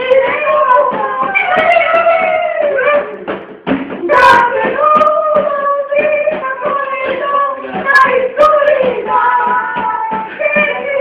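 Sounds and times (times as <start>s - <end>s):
sharp knocks: 0.0s - 11.0s
voices singing: 0.0s - 11.0s.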